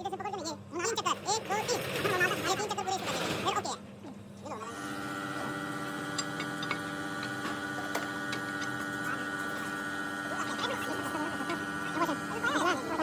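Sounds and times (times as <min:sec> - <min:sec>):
machine hum: 0:00.7 - 0:13.0.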